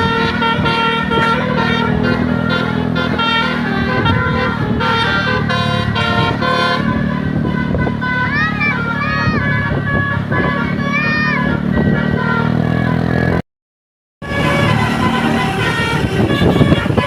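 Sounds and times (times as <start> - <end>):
bus engines rumbling: 0.0 - 13.4, 14.2 - 17.0
multi-tone bus air horns: 0.0 - 13.4, 14.2 - 17.0.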